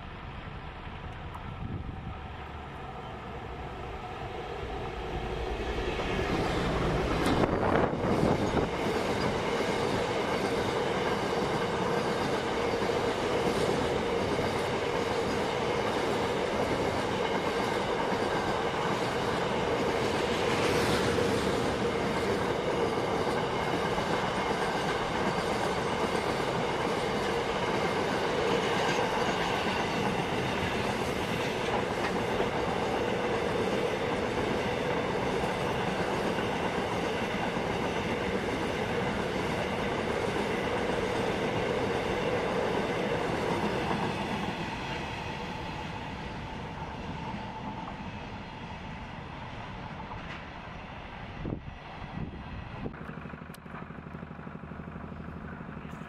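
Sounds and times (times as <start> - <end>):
train wheels rolling on rails: 0.0 - 56.0.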